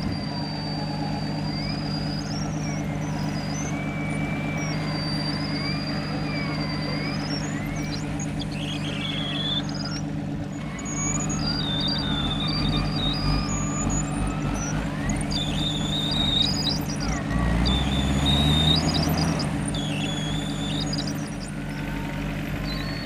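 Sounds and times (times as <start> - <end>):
high squealing tones: 0.0 - 23.0
rising and falling whines: 0.0 - 23.0
van engine running under load: 0.0 - 23.0.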